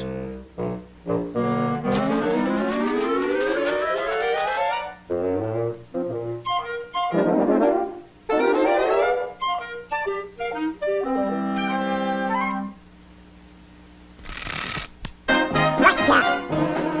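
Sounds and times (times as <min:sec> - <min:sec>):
orchestral cartoon music: 0:00.7 - 0:12.8, 0:15.3 - 0:17.0.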